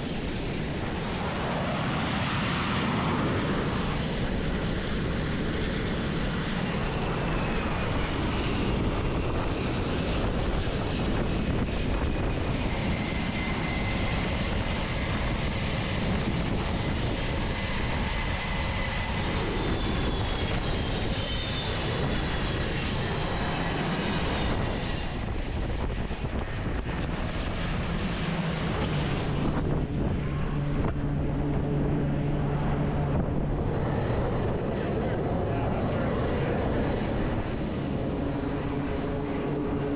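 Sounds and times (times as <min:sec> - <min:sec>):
aircraft engines running loudly: 0:00.0 - 0:39.9
whining tones gliding: 0:02.8 - 0:39.9.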